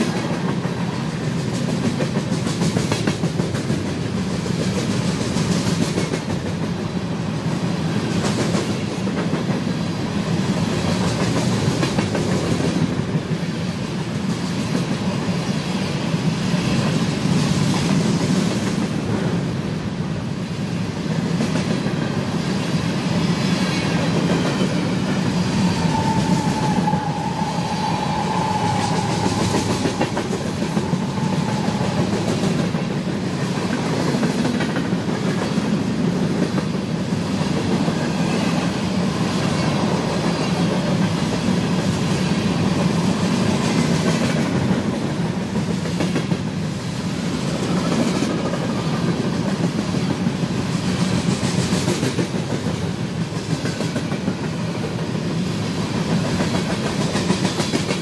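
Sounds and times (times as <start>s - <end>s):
freight train rumble: 0.0s - 58.0s
train wheels clicking over rail joints: 0.0s - 58.0s.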